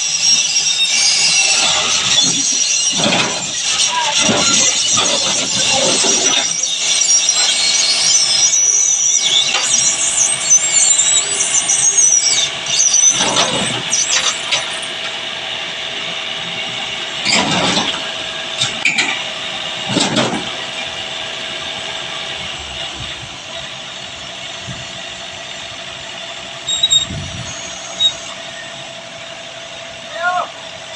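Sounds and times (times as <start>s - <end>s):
metallic squealing and scraping: 0.0s - 29.7s
backhoe engine hum: 0.0s - 30.9s.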